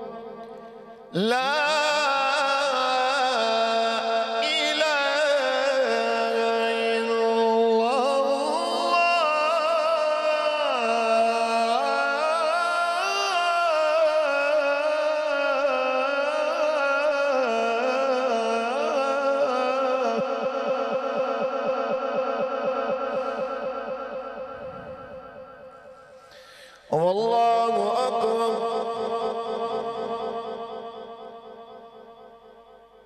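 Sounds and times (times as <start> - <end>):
man chanting through microphone: 0.0 - 32.8.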